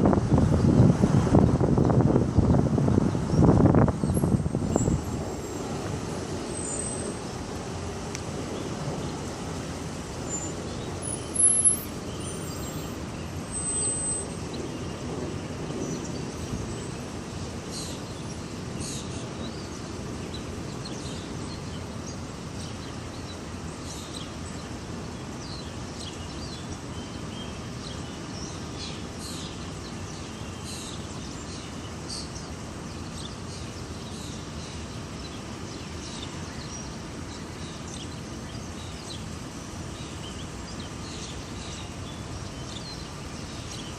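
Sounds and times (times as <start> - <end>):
distant traffic rumble: 0.0 - 43.9
small birds chirping: 0.3 - 43.9.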